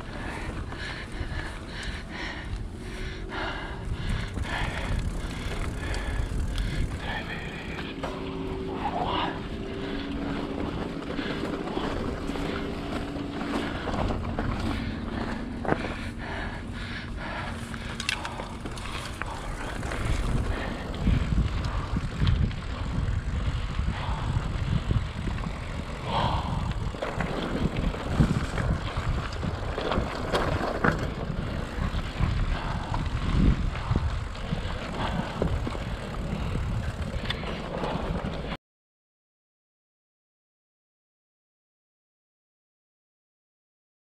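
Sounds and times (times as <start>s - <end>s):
bike knocking and rattling: 0.0s - 38.6s
wind rumbling on microphone: 0.0s - 38.6s.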